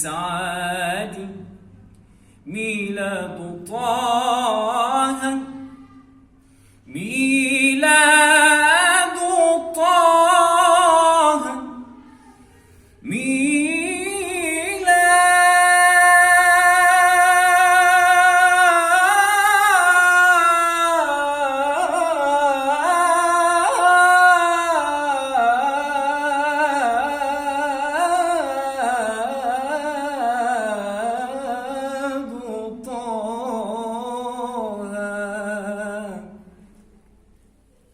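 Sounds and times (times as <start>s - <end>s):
solo voice chanting: 0.0s - 37.0s.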